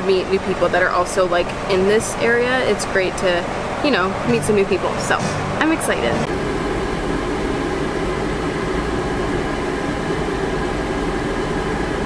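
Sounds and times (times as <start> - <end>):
air conditioning hum: 0.0 - 12.0.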